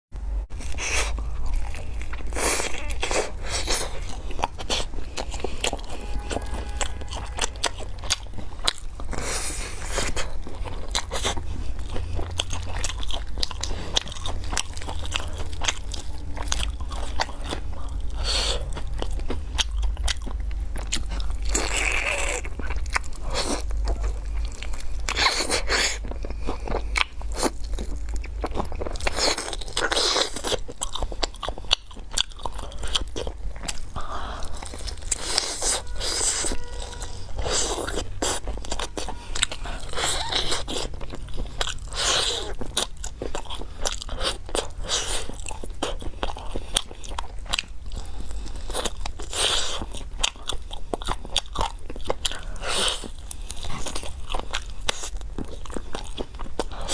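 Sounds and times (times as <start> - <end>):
steady low hum: 0.2 - 49.4
person chewing with wet crunches: 0.5 - 56.9.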